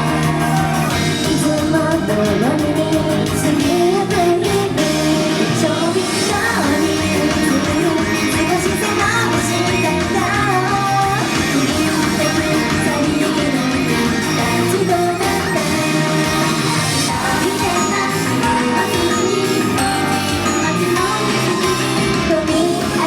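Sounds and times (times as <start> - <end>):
group singing: 0.0 - 23.0
loud pop-rock music with guitar: 0.0 - 23.0.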